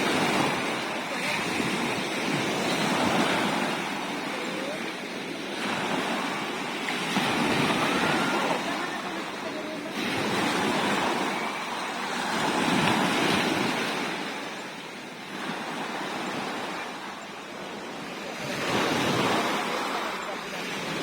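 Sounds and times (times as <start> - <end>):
sea waves washing onto shore: 0.0 - 21.0.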